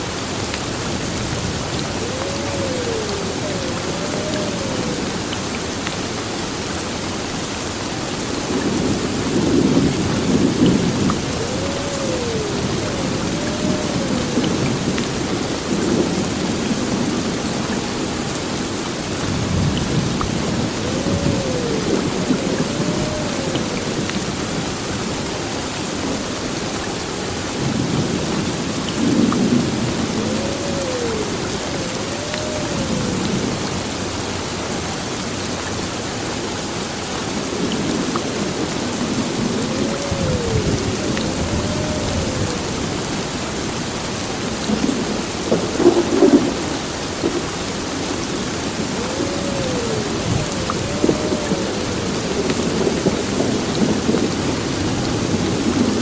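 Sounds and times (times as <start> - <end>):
heavy rain pouring: 0.0 - 56.0
thunder rumbling: 0.2 - 5.5, 8.4 - 18.0, 19.1 - 25.3, 27.1 - 33.8, 37.6 - 56.0.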